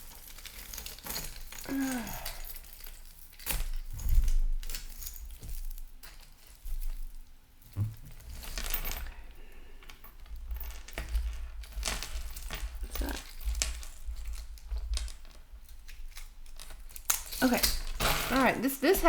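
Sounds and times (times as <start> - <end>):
jewelry clinking: 0.0 - 19.0
rustling: 0.0 - 19.0.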